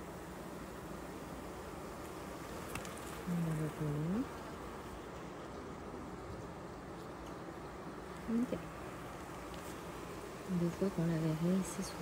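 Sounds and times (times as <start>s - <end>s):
bees humming: 0.0s - 12.0s.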